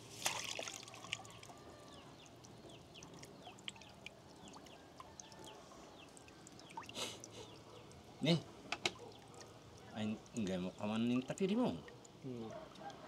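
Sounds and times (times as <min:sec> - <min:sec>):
birds chirping: 0:01.1 - 0:12.9.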